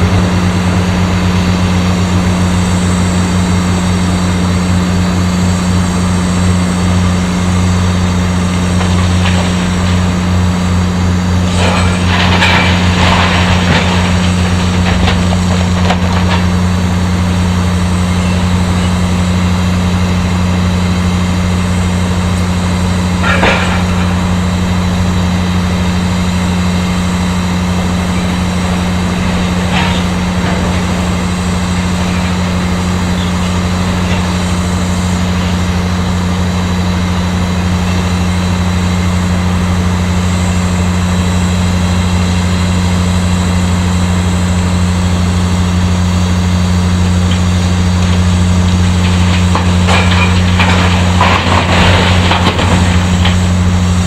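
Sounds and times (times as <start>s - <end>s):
heavy machinery humming: 0.0s - 54.0s
machinery rattle: 0.0s - 54.0s.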